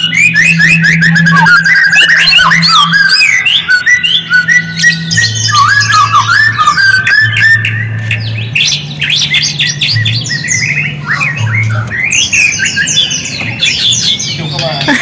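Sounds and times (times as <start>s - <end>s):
bird song: 0.0s - 15.0s.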